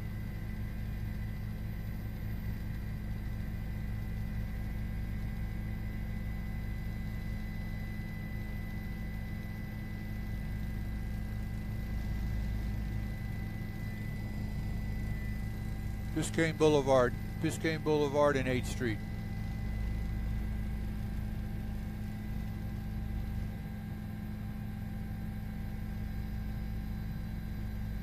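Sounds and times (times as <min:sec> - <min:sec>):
low mechanical drone: 0:00.0 - 0:28.0.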